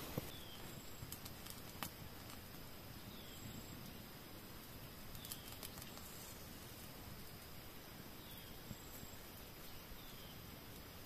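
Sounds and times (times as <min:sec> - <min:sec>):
low hiss: 0:00.0 - 0:11.0.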